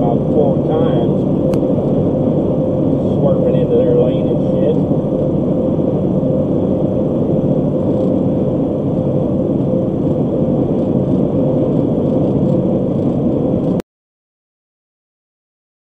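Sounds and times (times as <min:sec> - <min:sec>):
car cruising road noise: 0:00.0 - 0:13.8.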